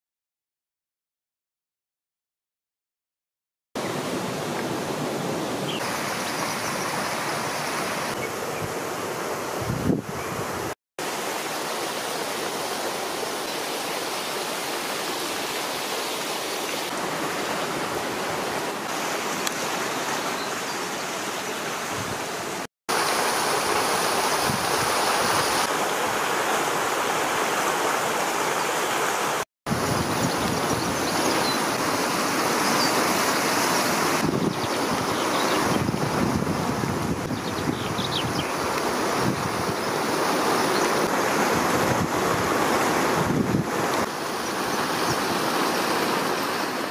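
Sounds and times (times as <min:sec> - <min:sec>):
rushing hot spring water: 0:03.8 - 0:46.9
stream running over rocks: 0:03.8 - 0:46.9.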